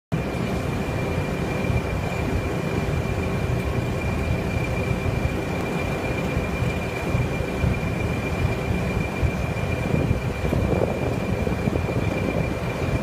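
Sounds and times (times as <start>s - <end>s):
diesel locomotive engine rumble: 0.1s - 13.0s
constant high whistle: 0.2s - 13.0s.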